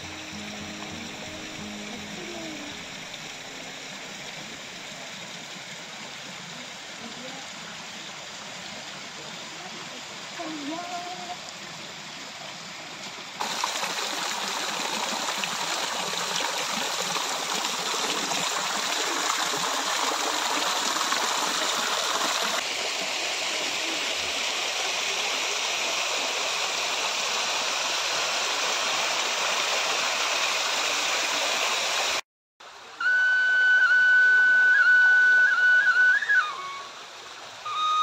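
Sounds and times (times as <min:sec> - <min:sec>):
waterfall splashing: 0:00.0 - 0:33.1.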